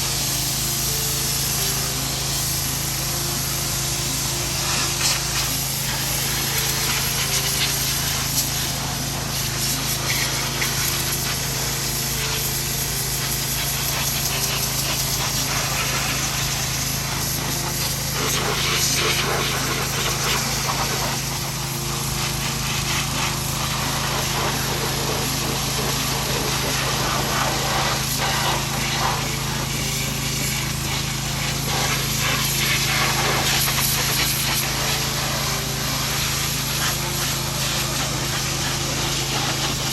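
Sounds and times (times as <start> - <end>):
pressure washer spray hissing: 0.0 - 39.9.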